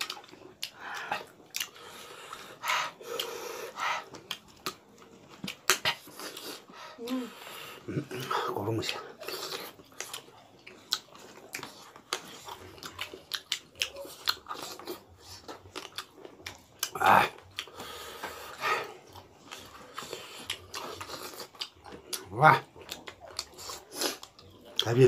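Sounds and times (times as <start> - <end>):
chewing and lip smacking: 0.0 - 25.0.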